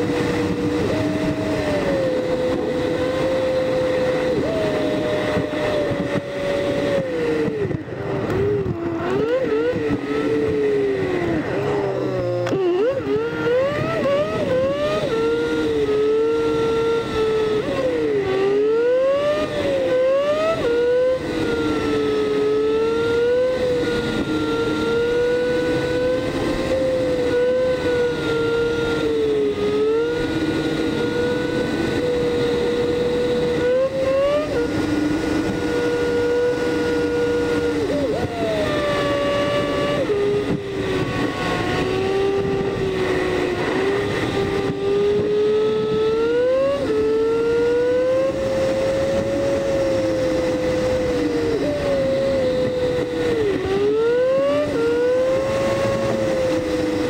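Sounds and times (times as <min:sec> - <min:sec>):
sped-up car engine whining: 0:00.0 - 0:57.0.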